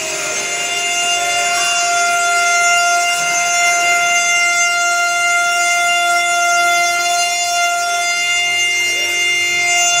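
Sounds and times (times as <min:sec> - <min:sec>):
spindle motor whine: 0:00.0 - 0:10.0.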